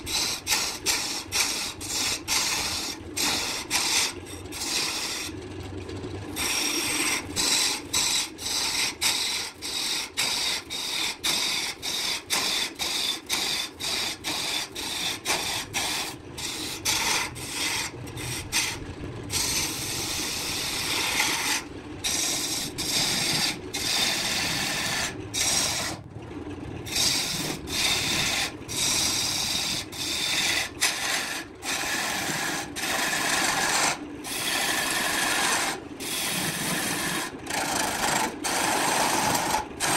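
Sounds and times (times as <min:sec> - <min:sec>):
lathe tool scraping wood: 0:00.0 - 0:05.3, 0:06.4 - 0:26.0, 0:26.9 - 0:39.9
wood lathe running: 0:00.0 - 0:05.4, 0:06.3 - 0:26.0, 0:26.8 - 0:39.9.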